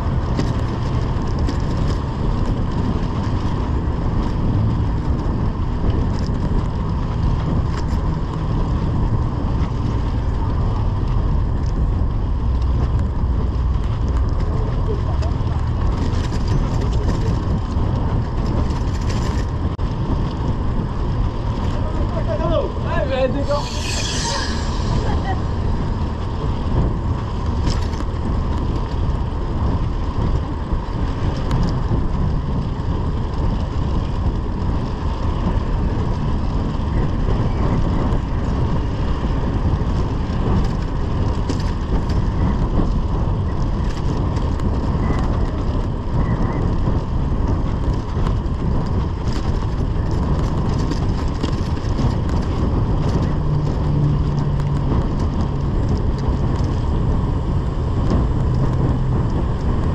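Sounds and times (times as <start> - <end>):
bicycle tyres on asphalt: 0.0 - 59.9
low traffic rumble: 0.0 - 59.9
wind over microphone: 0.0 - 59.9.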